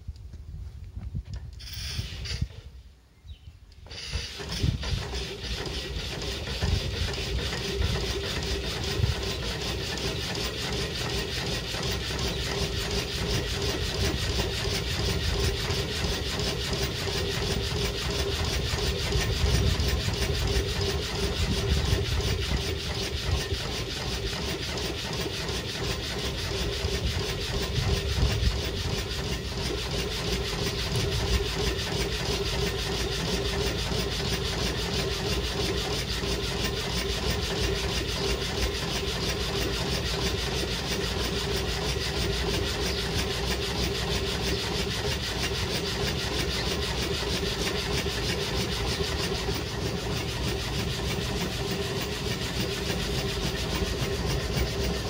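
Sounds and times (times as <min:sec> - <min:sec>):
rhythmic rubbing and sliding: 0:03.9 - 0:55.0.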